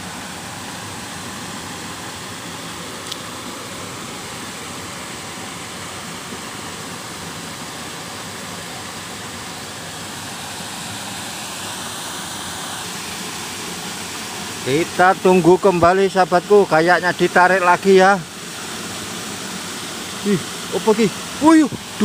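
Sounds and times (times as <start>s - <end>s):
water rushing over weir: 0.0s - 22.0s.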